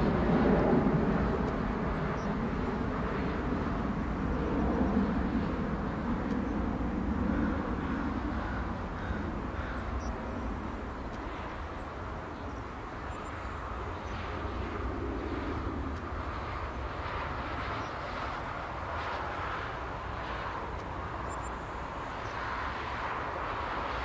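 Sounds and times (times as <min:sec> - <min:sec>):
distant jet engines rumbling: 0:00.0 - 0:24.0.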